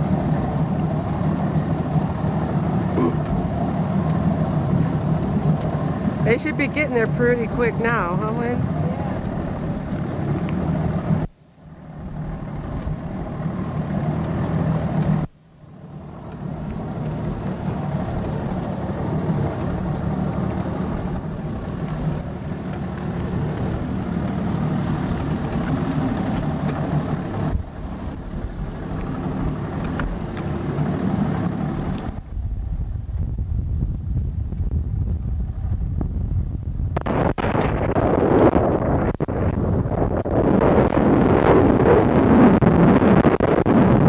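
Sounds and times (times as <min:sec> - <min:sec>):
boat motor humming: 0:00.0 - 0:44.0.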